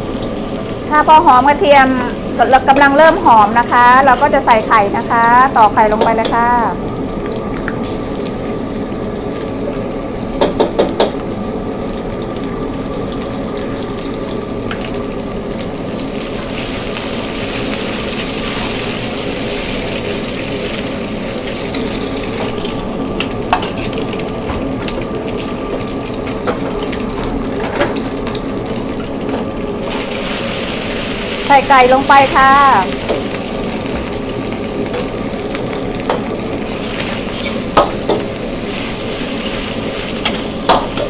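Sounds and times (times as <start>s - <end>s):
egg sizzling in wok: 0.0s - 41.0s.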